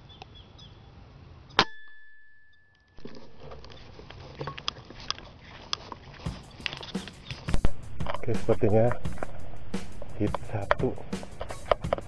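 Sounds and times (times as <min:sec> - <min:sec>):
field ambience: 0:00.0 - 0:12.0.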